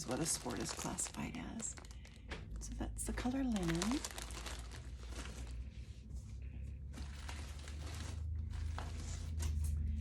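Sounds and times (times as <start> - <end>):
yarn packaging rustling: 0.0 - 6.2, 6.8 - 9.5.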